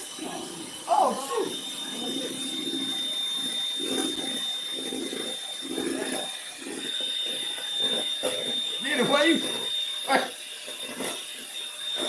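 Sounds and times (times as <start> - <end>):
beaters scraping in bowl: 0.0 - 12.0
hand mixer motor whine: 0.0 - 12.0.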